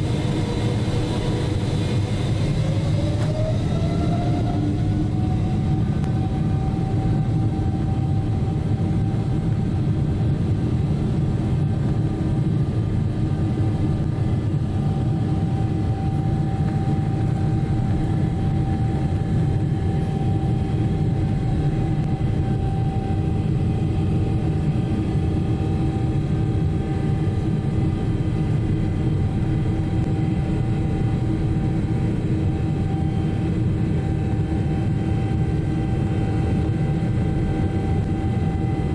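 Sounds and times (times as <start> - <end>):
constant hum tones: 0.0 - 38.9
jet engine cabin drone: 0.0 - 38.9.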